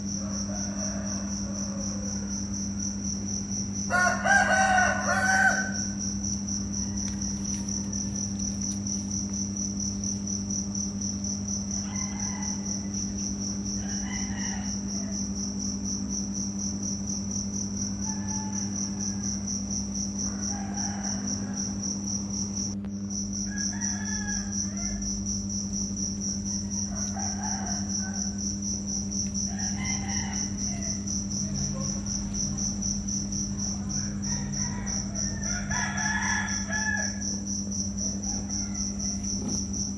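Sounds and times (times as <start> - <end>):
cricket chirping: 0.0 - 39.9
steady low hum: 0.0 - 39.9.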